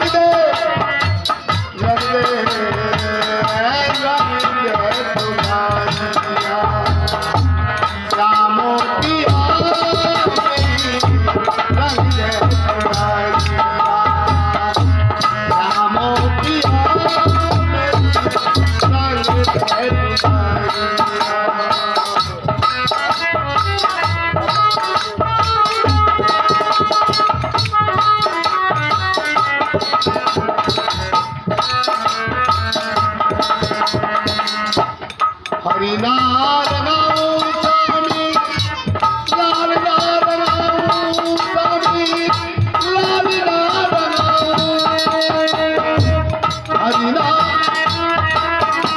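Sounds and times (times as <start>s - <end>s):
hand drum beating a rhythm: 0.0s - 48.9s.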